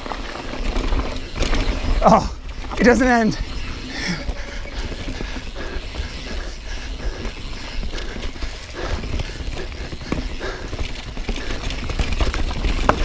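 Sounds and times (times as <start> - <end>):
bike knocks and rattles: 0.0 - 6.3, 7.0 - 13.0
bike tyres rumbling: 0.0 - 13.0.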